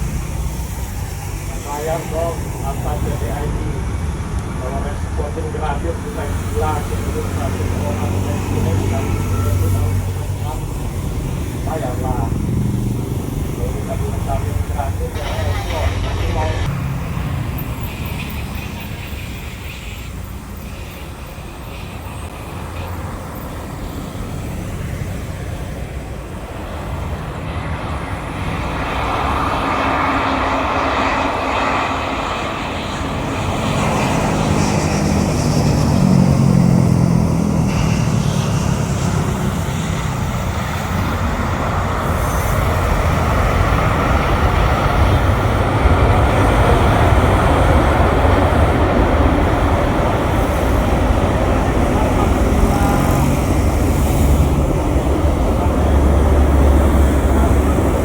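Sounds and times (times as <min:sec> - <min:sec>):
jet engines passing: 0:00.0 - 0:58.0.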